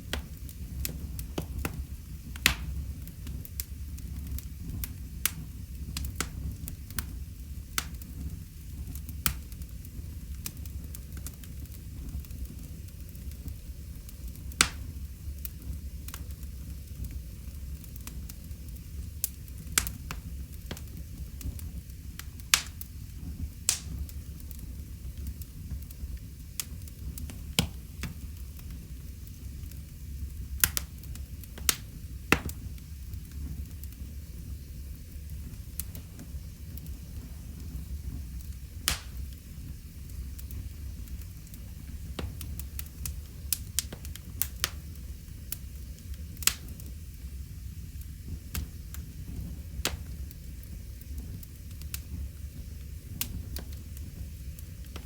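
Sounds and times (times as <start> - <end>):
sharp pops of burning wood: 0.0 - 47.1, 47.8 - 55.0
wood fire crackling: 0.0 - 55.0.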